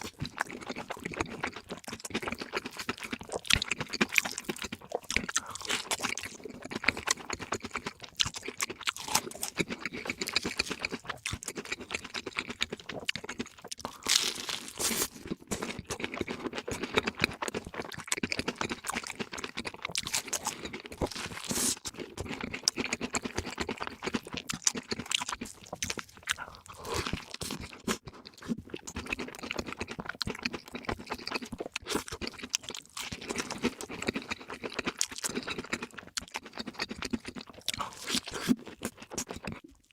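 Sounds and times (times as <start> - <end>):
crunching fried food: 0.0 - 39.9.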